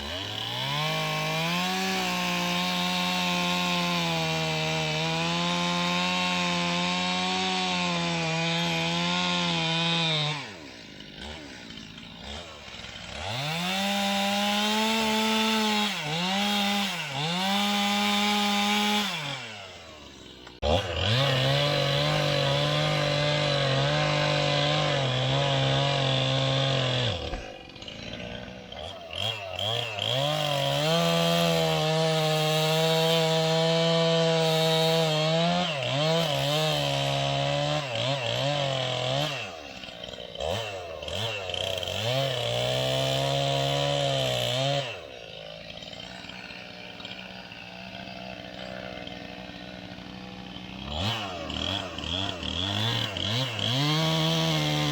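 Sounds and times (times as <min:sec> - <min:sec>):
chainsaw cutting log: 0:00.0 - 0:54.9
chainsaw idling: 0:00.0 - 0:54.9.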